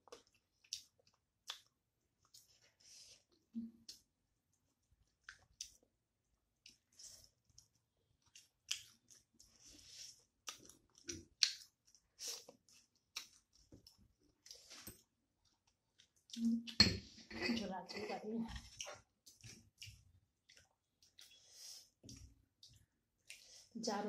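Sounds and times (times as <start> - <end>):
wet chewing and lip smacks: 0.0 - 2.8, 3.8 - 16.8, 18.6 - 23.7.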